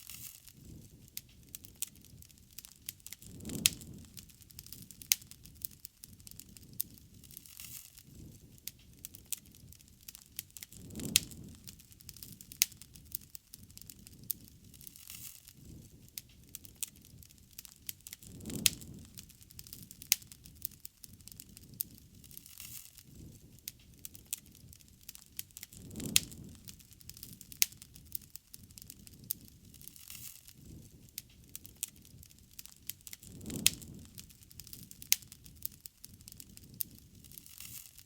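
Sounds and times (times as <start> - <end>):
bonfire crackling and popping: 0.0 - 38.0.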